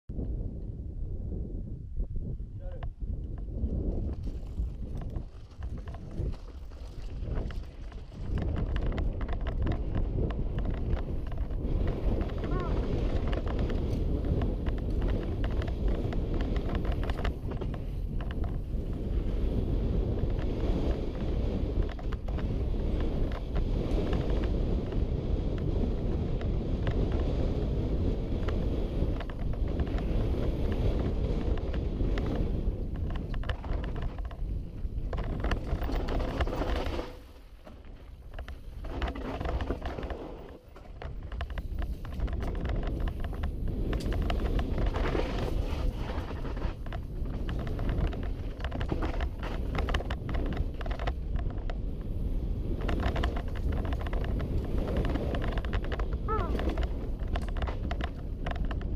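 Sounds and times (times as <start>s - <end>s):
wind buffeting microphone: 0.1s - 58.9s
bike rattling over dirt trail: 3.1s - 58.9s.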